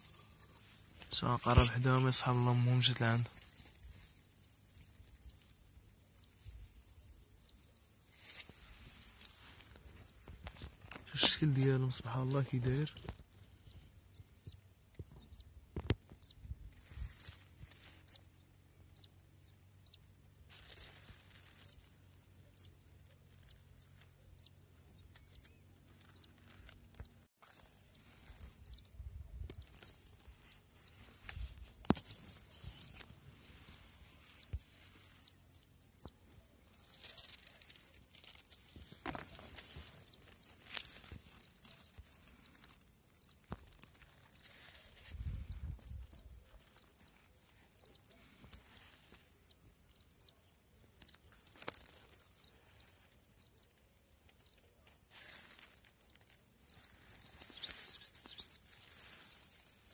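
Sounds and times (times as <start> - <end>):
nestlings cheeping: 0.0 - 13.0, 20.6 - 21.8, 23.3 - 59.9.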